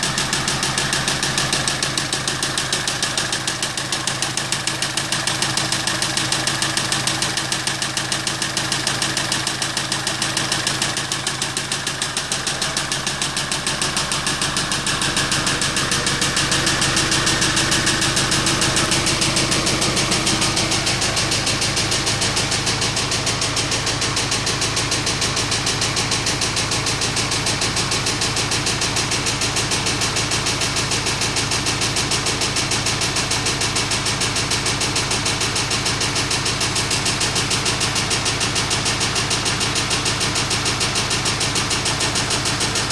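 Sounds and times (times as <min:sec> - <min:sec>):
car engine knocking: 0:00.0 - 0:42.9.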